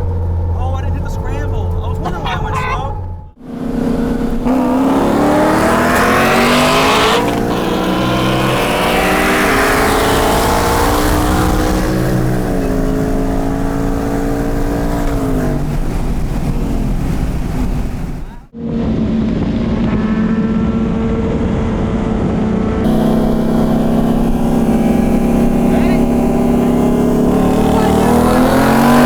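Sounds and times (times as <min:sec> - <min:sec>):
gear changes: 0:00.0 - 0:18.5, 0:22.9 - 0:29.0
car engine accelerating hard: 0:00.0 - 0:29.0.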